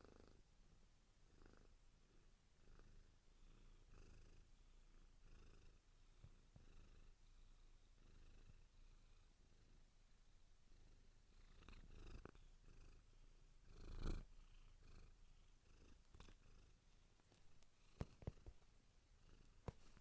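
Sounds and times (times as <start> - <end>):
cat purring: 0.0 - 0.5, 1.2 - 20.0.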